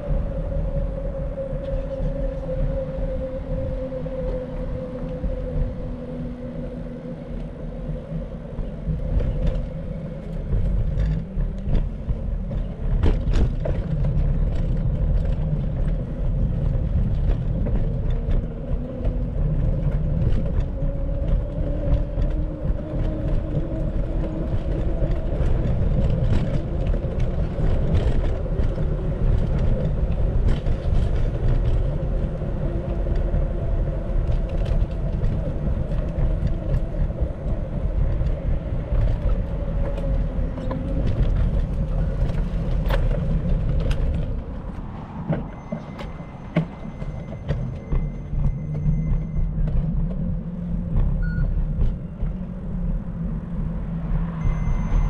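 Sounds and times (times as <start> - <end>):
road noise: 0.0 - 55.0
wind rumble: 0.0 - 55.0.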